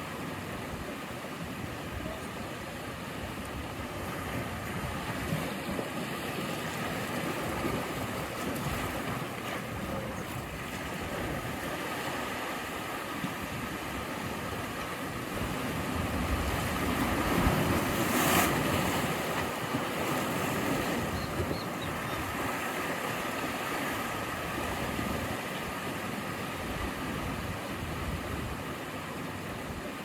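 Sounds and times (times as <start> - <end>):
sea waves washing in: 0.0 - 30.0
wave breaking: 2.9 - 28.4.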